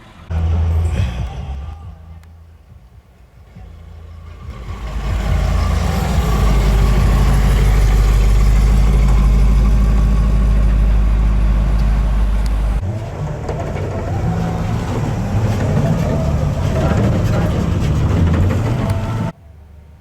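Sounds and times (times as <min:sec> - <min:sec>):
car engine rumbling: 0:00.0 - 0:19.4.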